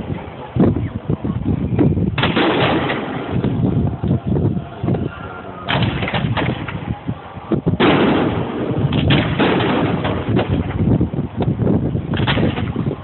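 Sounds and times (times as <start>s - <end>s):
fireworks bangs and crackles: 0.0s - 5.0s, 5.6s - 13.0s.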